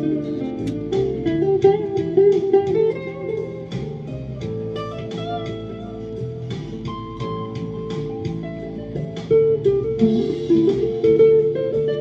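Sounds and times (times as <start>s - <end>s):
electric guitar plucked melody: 0.0s - 12.0s.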